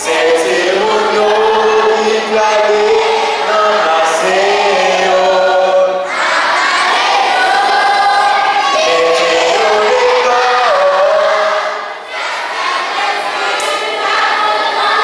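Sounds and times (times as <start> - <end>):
children singing together: 0.0 - 15.0.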